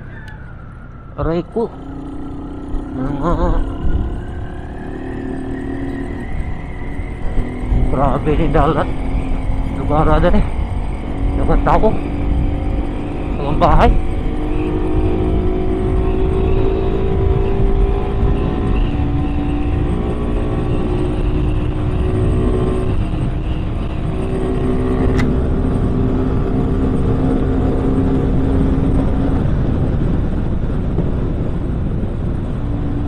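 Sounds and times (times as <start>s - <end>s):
road rumble: 0.0s - 33.0s
wind noise: 0.0s - 33.0s
motorcycle engine running: 0.5s - 33.0s.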